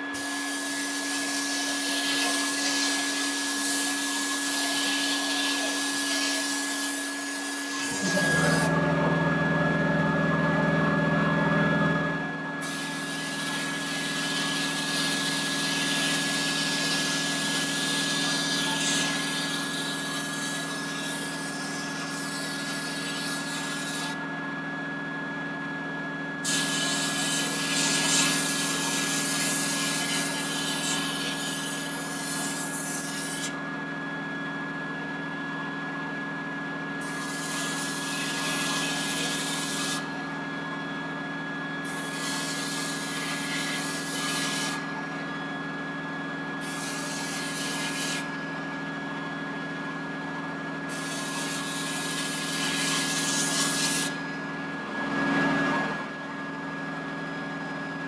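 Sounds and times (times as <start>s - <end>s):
steady machine hum: 0.0s - 22.8s, 23.4s - 51.4s, 54.0s - 58.0s.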